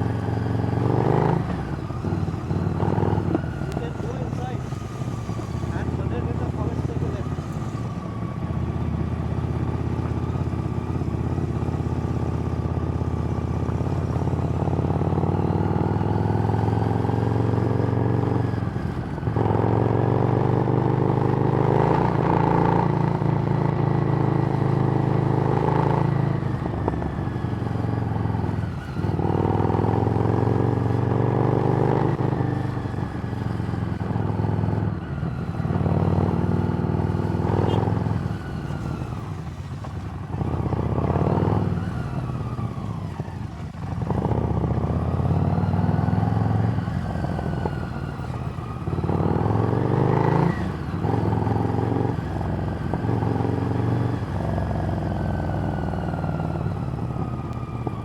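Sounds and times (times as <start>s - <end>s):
motorcycle engine at riding speed: 0.0s - 58.0s.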